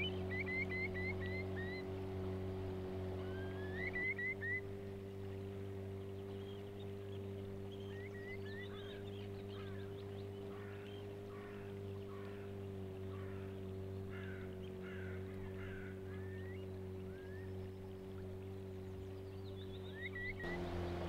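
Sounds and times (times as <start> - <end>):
birds chirping: 0.0 - 21.0
outboard motor running: 0.0 - 21.0.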